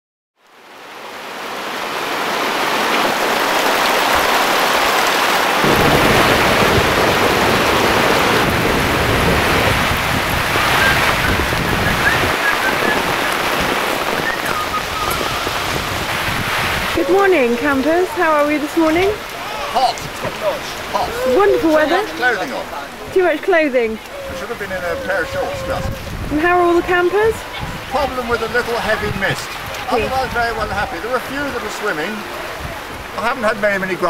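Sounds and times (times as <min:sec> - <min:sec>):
steady rain falling: 0:00.4 - 0:34.0.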